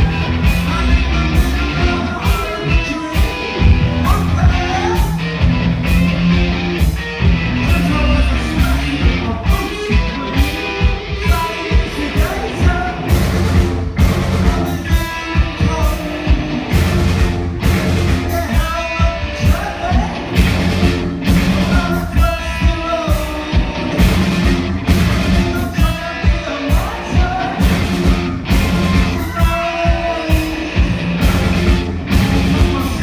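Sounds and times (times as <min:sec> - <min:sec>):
male lead vocal: 0:00.0 - 0:05.4, 0:07.5 - 0:17.4, 0:18.1 - 0:20.6, 0:21.2 - 0:33.0
drum beat: 0:00.0 - 0:33.0
live rock band playing: 0:00.0 - 0:33.0.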